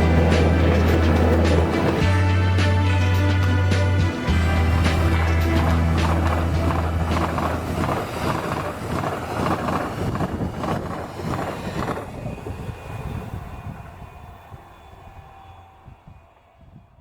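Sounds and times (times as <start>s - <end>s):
vehicle rumbling: 0.0s - 16.2s.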